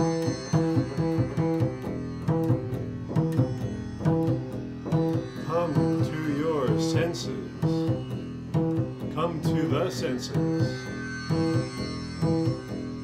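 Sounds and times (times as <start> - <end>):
double bass plucked: 0.0 - 13.0.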